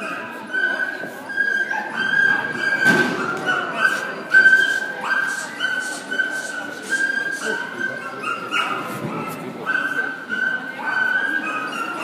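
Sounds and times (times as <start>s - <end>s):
dog yelping: 0.0s - 12.0s.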